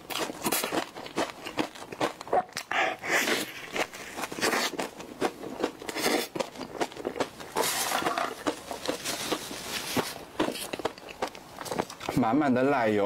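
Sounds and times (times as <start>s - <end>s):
person chewing: 0.0s - 12.2s.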